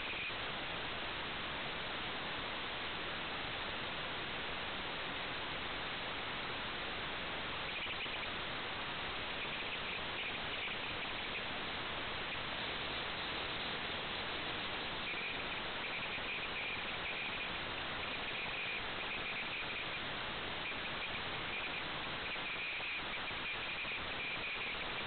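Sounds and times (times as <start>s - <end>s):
static hiss: 0.0s - 25.0s.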